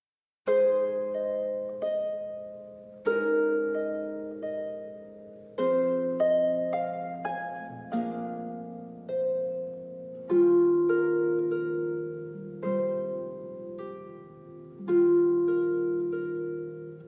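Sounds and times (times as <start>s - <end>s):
slow instrumental music: 0.5s - 17.0s.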